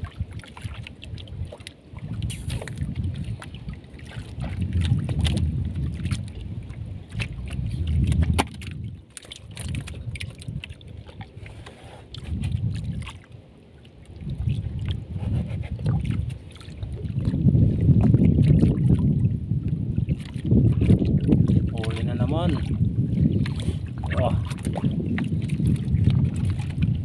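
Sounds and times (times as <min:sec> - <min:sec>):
water washing against boat hull: 0:00.0 - 0:27.0.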